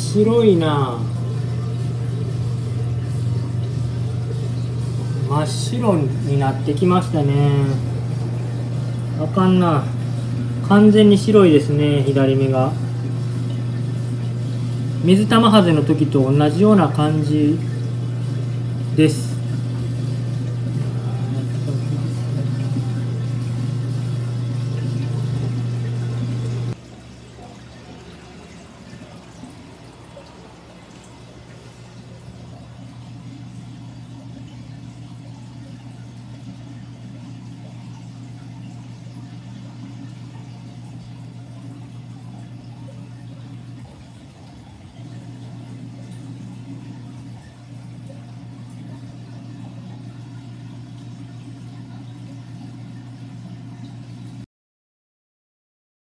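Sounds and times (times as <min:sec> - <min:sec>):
aquarium equipment humming: 0:00.0 - 0:54.5.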